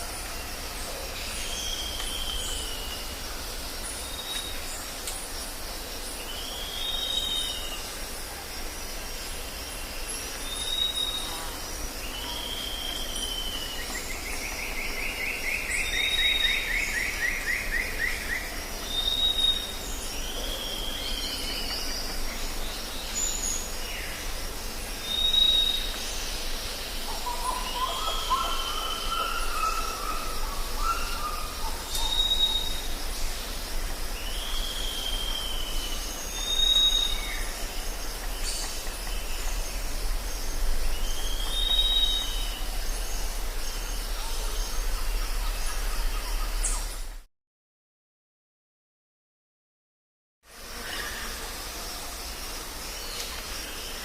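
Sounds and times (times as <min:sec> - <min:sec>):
steady high hiss: 0:00.0 - 0:47.3, 0:50.5 - 0:54.0.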